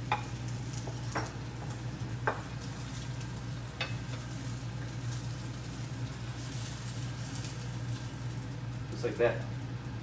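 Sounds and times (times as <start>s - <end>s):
food sizzling in a frying pan: 0.0s - 10.0s
low steady hum: 0.0s - 10.0s.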